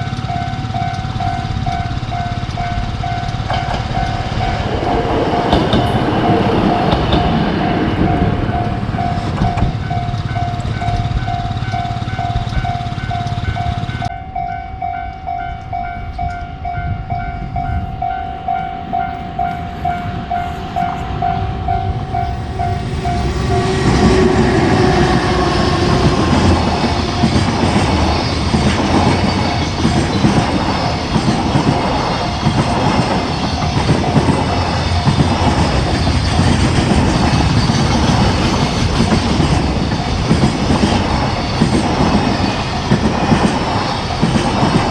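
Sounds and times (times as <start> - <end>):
train wheels clattering: 0.0 - 14.1, 15.2 - 44.9.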